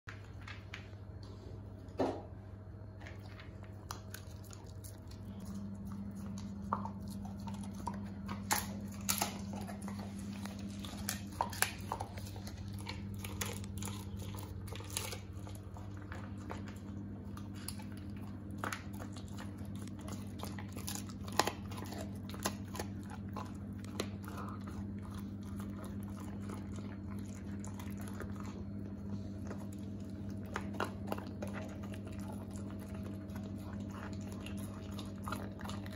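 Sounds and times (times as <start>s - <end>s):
steady low hum: 0.1s - 35.9s
dog chewing bones: 3.1s - 35.9s.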